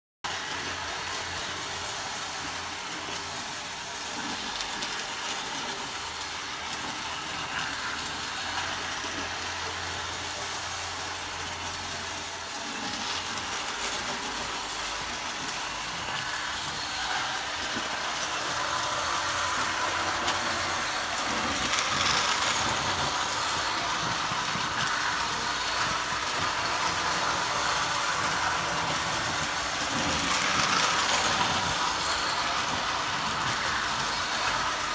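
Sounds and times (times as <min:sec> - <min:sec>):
toy train running on track: 0:00.3 - 0:34.9.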